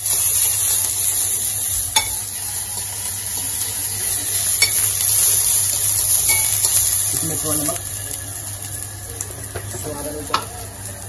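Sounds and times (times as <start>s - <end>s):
garlic and pepper sizzling in pot: 0.0s - 11.0s.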